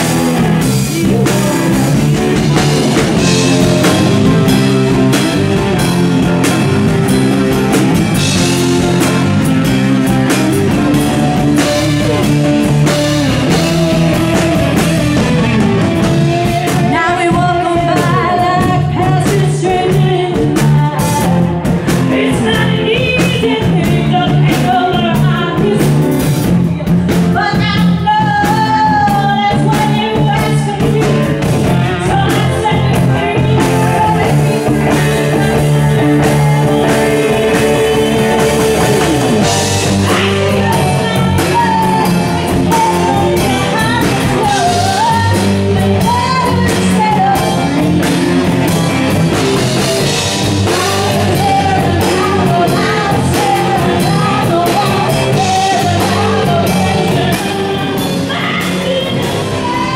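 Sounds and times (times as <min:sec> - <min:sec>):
drum kit: 0:00.0 - 0:59.9
guitar: 0:00.0 - 0:59.9
woman singing into a microphone: 0:00.3 - 0:06.3, 0:08.0 - 0:59.9.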